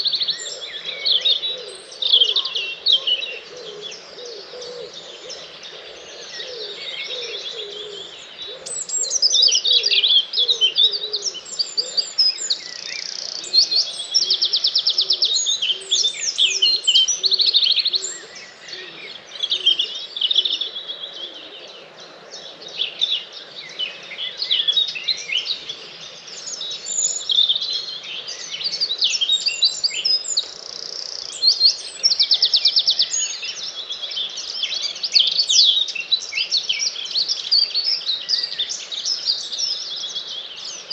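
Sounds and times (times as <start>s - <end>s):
low repeated bird call: 0.0s - 40.9s
songbirds singing: 0.0s - 40.9s.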